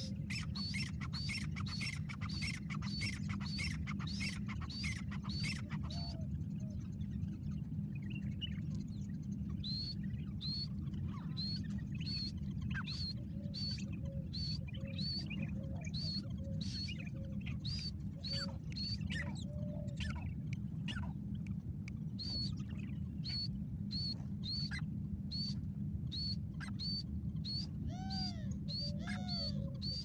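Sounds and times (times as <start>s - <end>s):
low background rumble: 0.0s - 30.0s
small birds chirping: 0.0s - 30.0s.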